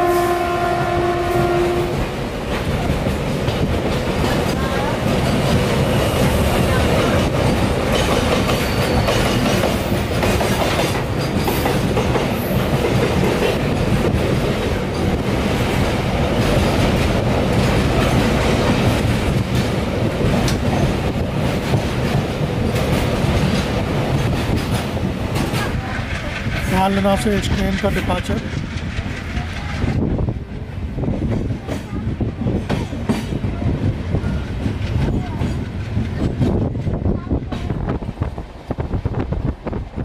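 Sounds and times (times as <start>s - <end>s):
train rumbling at speed: 0.0s - 40.0s
wheels clattering on rails: 2.0s - 38.4s.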